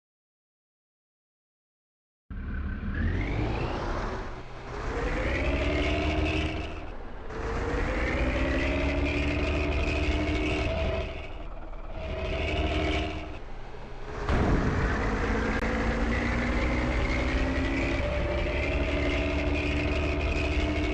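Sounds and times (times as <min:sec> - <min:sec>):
low engine rumble: 0:02.3 - 0:20.9.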